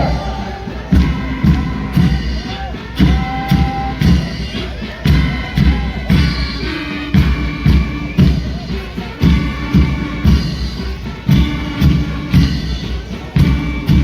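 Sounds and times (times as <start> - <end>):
loud music with heavy drum beat: 0.0 - 14.0.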